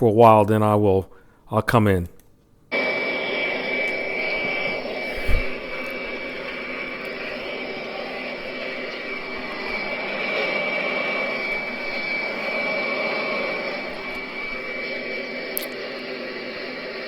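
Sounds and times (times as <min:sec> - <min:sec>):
high-pitched machine whine: 0:02.7 - 0:17.0
industrial machinery running: 0:02.7 - 0:17.0.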